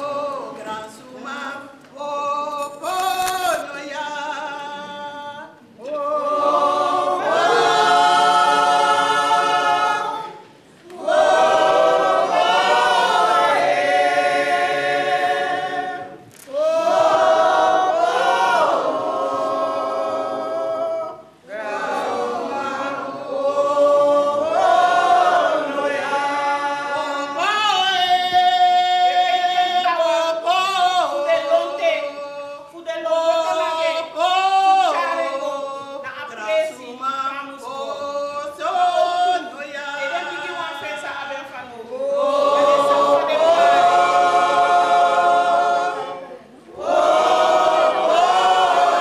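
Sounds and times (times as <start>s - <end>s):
women singing a cappella: 0.0s - 40.9s.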